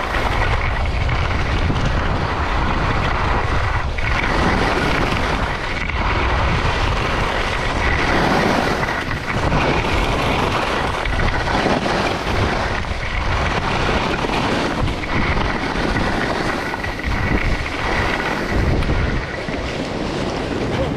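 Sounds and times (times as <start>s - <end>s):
skis scraping on snow: 0.0s - 20.9s
wind rushing over microphone: 0.0s - 20.9s.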